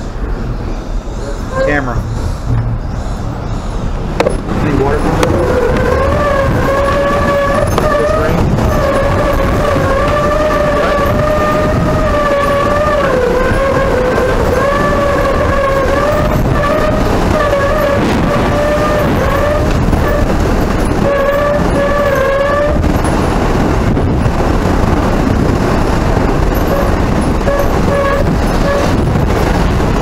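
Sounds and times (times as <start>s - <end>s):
hurricane wind roaring: 0.0s - 30.0s
wind whistling howl: 0.0s - 30.0s.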